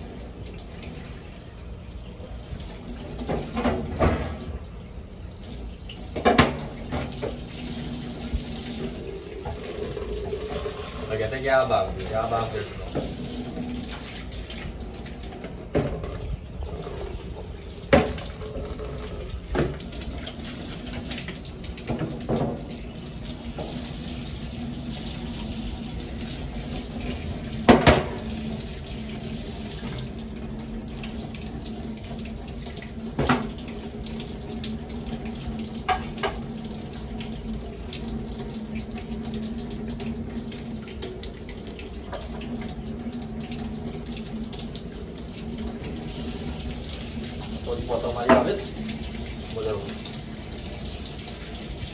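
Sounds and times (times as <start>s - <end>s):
tap water into metal sink: 2.6s - 4.8s, 5.8s - 24.1s, 26.6s - 28.6s, 29.6s - 34.0s, 34.6s - 51.9s.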